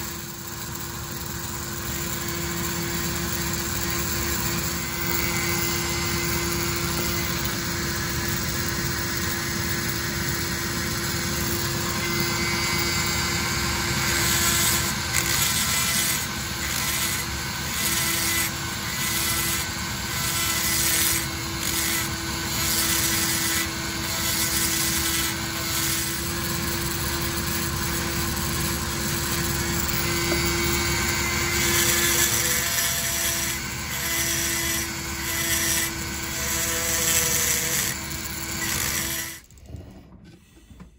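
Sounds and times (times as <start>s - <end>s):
grinder bit cutting metal: 0.0s - 39.7s
die grinder whining: 0.0s - 40.9s.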